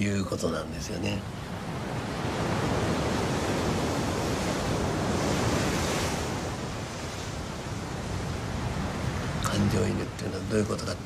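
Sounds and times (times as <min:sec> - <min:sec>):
ocean waves rushing: 0:00.0 - 0:11.0.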